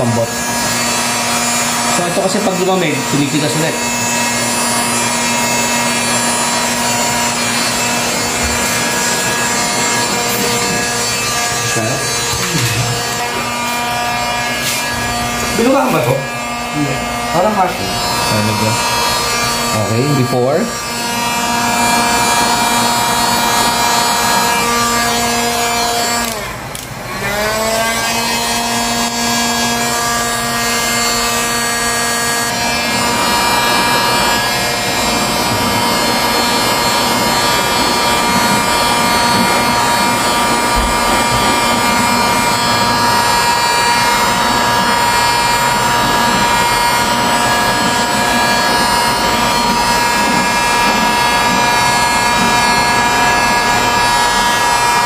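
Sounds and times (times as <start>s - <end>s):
heat gun fan whine: 0.0s - 55.0s.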